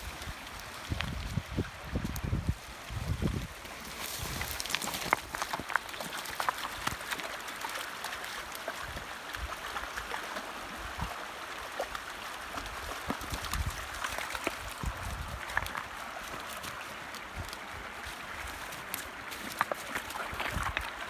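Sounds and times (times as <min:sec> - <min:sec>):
creek running over rocks: 0:00.0 - 0:21.0
dogs splashing through water: 0:03.6 - 0:21.0.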